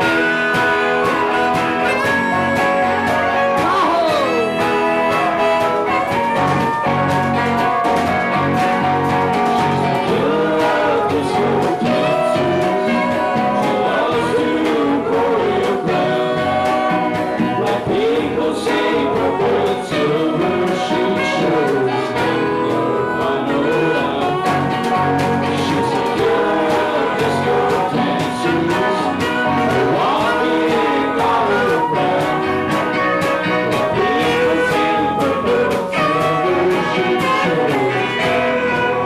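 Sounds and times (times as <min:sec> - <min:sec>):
live band playing: 0:00.0 - 0:39.0
person singing: 0:00.0 - 0:39.0.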